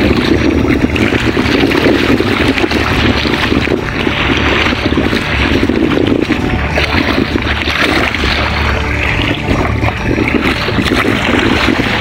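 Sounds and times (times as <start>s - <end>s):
shallow sea water washing: 0.0s - 12.0s
wind buffeting microphone: 0.0s - 12.0s.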